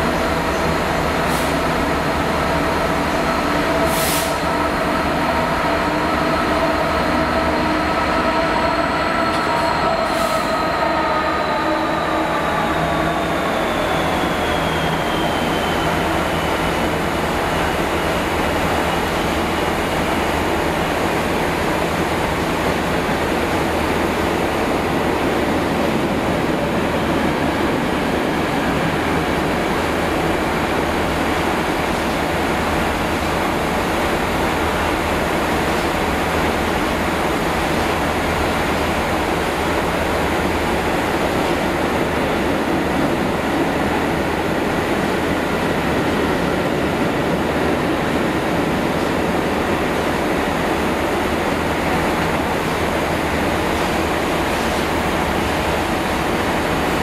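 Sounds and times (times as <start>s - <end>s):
diesel locomotive engine passing: 0.0s - 57.0s
freight wagon wheels on rail: 0.0s - 57.0s.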